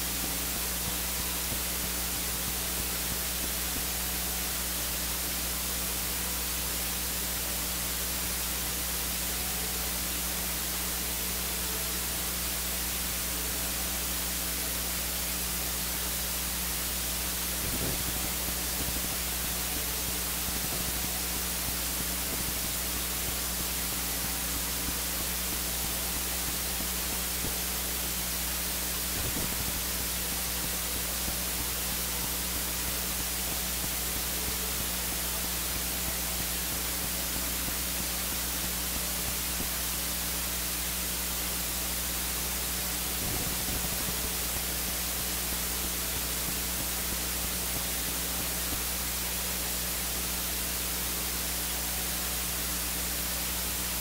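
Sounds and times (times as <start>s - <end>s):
low electrical hum: 0.0s - 54.0s
static hiss: 0.0s - 54.0s.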